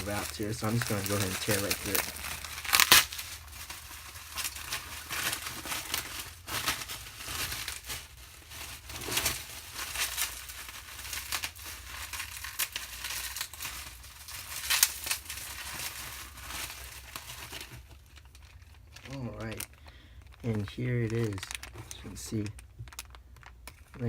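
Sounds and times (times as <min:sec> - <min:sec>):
wrapping being torn and crumpled: 0:00.0 - 0:24.0.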